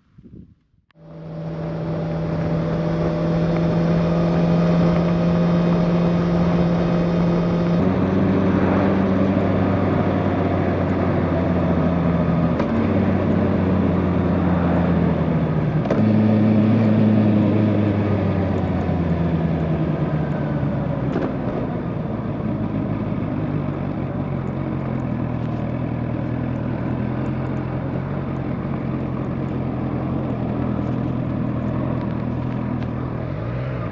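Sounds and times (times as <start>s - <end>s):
road and wind noise: 0.0s - 33.9s
motorcycle engine running: 1.0s - 33.9s.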